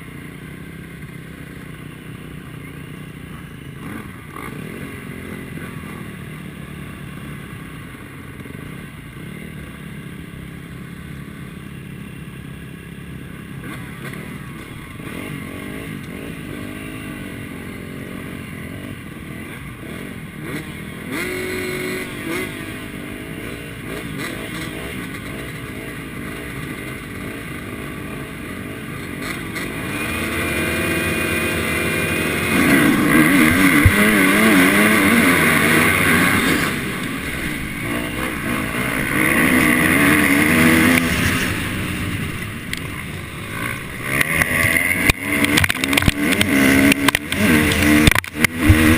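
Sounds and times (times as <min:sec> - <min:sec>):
motocross bike engines revving: 0:00.0 - 0:48.9.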